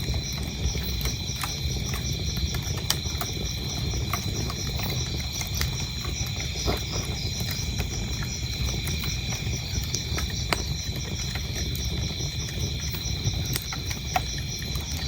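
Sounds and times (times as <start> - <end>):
crickets chirping: 0.0 - 15.0
wood fire crackling and popping: 0.0 - 15.0.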